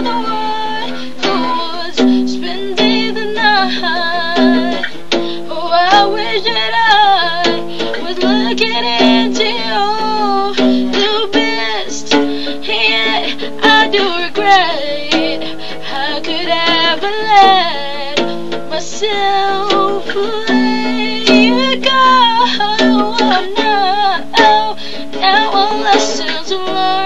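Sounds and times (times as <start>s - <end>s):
guitar picked and strummed: 0.0s - 27.0s
woman singing slow melody: 0.0s - 27.0s.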